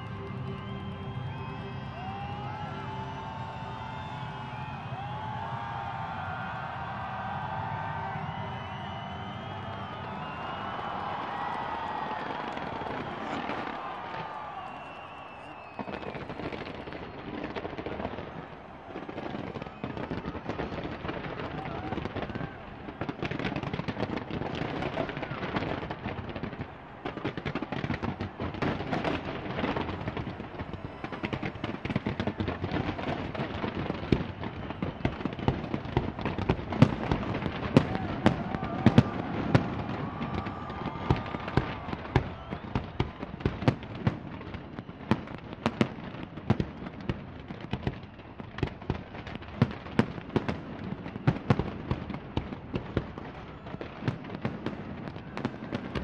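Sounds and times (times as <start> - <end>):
crowd noise: 0.0 - 56.0
fireworks bangs and crackles: 0.0 - 56.0.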